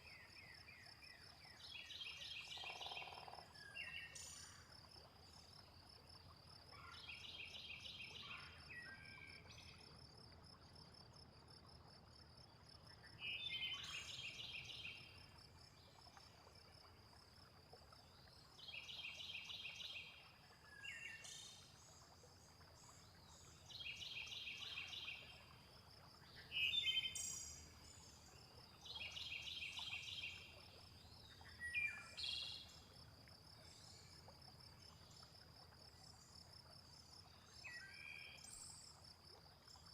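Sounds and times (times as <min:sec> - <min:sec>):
faint rushing water: 0:00.0 - 0:39.9.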